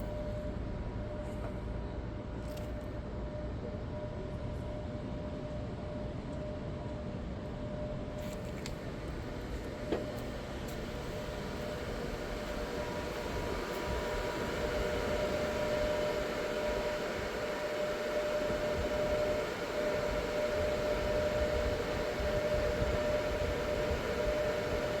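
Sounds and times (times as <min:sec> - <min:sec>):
charger fan rushing with whine: 0:00.0 - 0:25.0.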